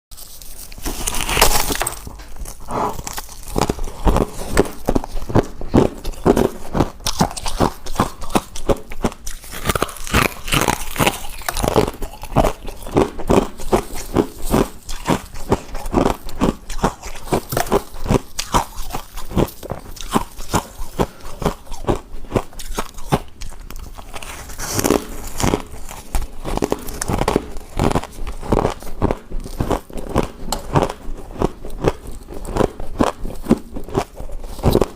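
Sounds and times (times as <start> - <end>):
person crunching ice: 0.1 - 34.9.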